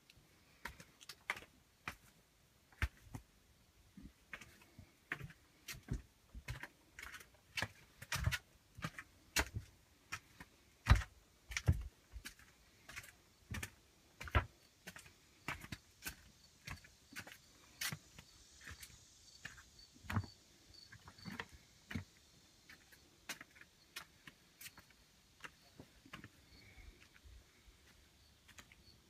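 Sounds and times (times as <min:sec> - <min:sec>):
footsteps on stone path: 0:00.6 - 0:03.3, 0:03.9 - 0:28.8.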